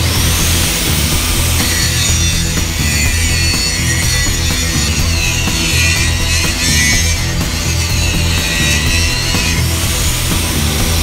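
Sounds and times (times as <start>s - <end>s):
angle grinder grinding metal: 0.0s - 11.0s
music beat: 0.0s - 11.0s.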